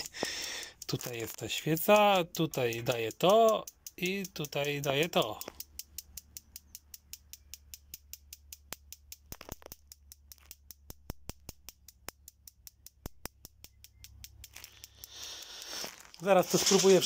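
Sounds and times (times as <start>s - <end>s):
spark igniter ticking: 0.0s - 17.0s.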